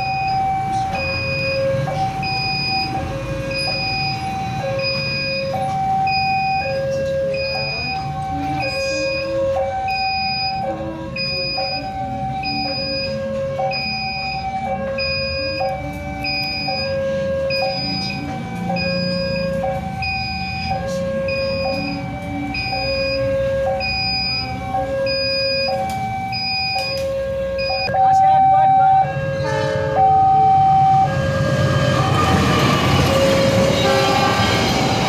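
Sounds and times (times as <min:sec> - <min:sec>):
level crossing two-tone alarm: 0:00.0 - 0:35.0.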